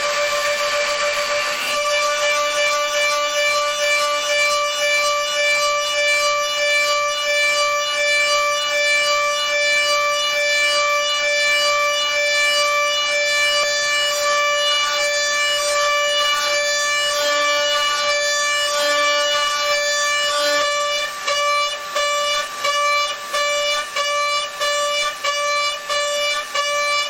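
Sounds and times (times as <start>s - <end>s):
cnc machine whine: 0.0s - 27.0s.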